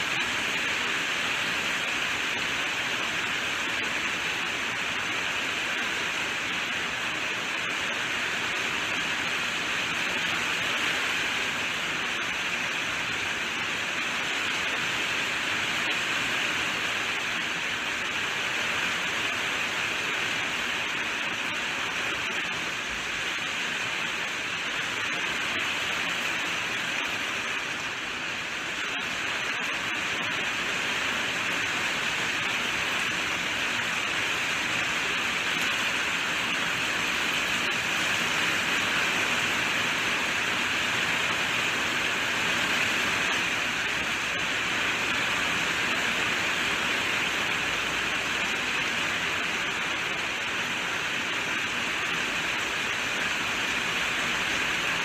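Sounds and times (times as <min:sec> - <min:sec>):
heavy rainfall: 0:00.0 - 0:55.0.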